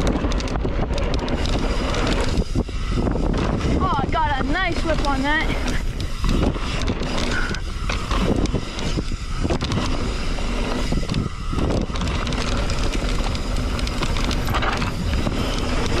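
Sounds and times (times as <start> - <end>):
bike rattling and knocking: 0.0 - 16.0
tyres rumbling on dirt: 0.0 - 16.0
wind rushing over microphone: 0.0 - 16.0.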